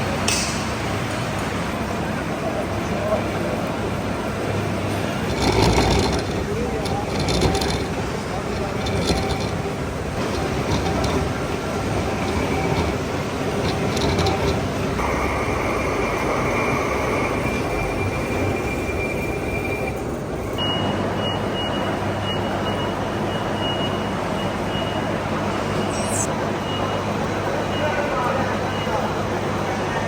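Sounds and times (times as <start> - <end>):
metalworking machinery running: 0.0 - 30.0
thin steady whine: 1.6 - 30.0.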